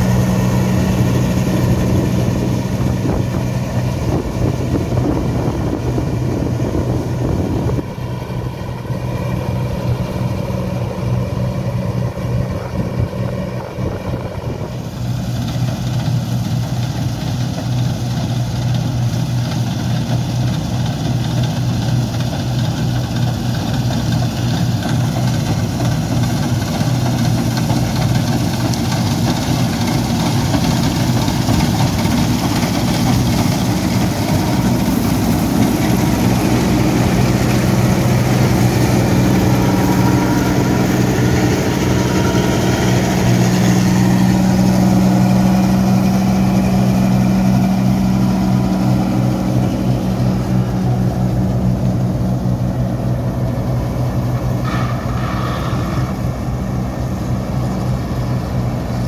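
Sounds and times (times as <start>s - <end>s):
combine harvester engine hum: 0.0s - 59.0s.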